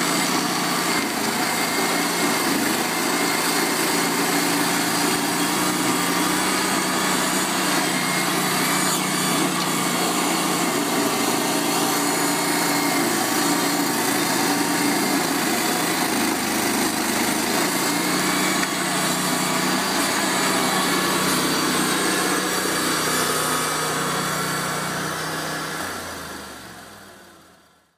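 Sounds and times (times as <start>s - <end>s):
stump grinder grinding: 0.0s - 27.7s.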